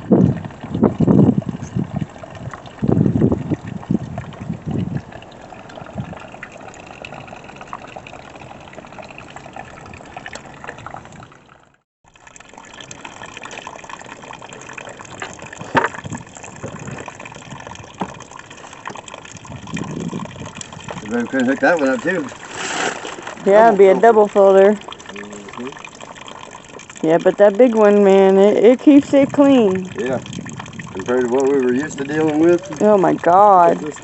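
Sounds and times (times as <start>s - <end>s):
water gushing into pool: 0.0s - 34.0s
water splashes: 0.0s - 34.0s.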